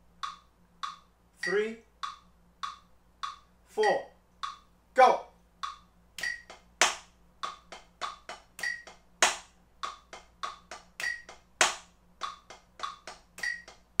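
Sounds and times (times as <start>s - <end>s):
drumsticks tapping practice pad: 0.1s - 4.7s, 5.6s - 14.0s
metronome clicking: 0.1s - 4.7s, 5.6s - 6.6s, 7.4s - 14.0s.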